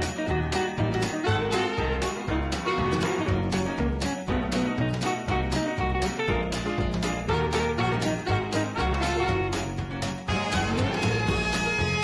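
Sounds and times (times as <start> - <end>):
upbeat festive music: 0.0 - 12.0.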